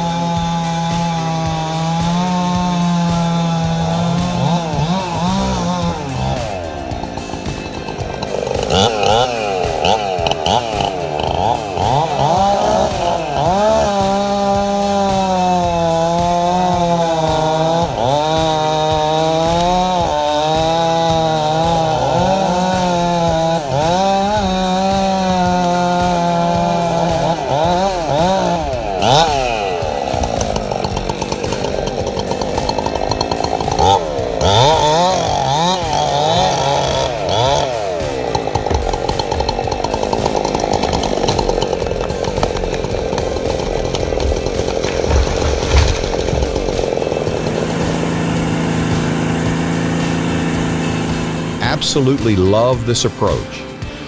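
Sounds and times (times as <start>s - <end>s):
chainsaw cutting: 0.0s - 54.0s.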